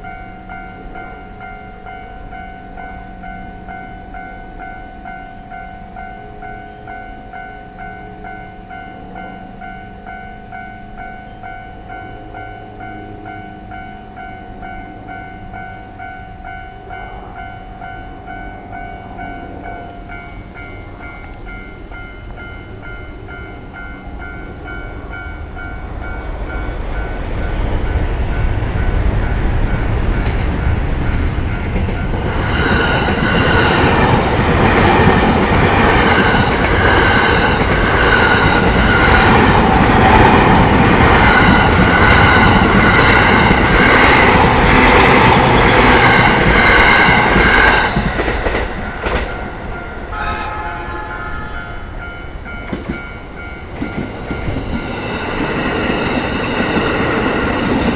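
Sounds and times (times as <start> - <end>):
level crossing warning bell: 0.0 - 57.9
train passing: 0.0 - 57.9.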